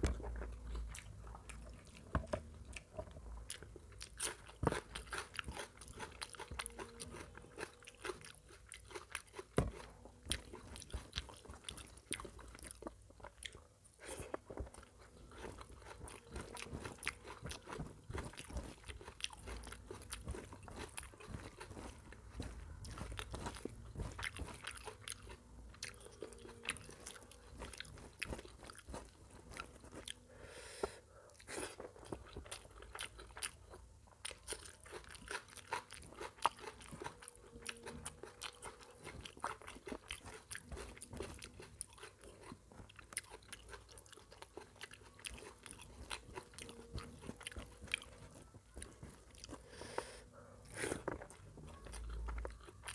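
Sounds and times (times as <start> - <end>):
close chewing and crunching: 0.0 - 52.9.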